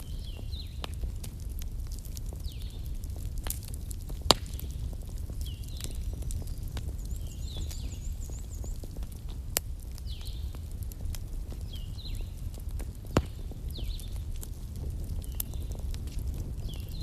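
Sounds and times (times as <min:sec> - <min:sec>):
low rumble of flames: 0:00.0 - 0:17.0
sharp pops of burning wood: 0:00.0 - 0:17.0
wood fire crackling: 0:00.0 - 0:17.0.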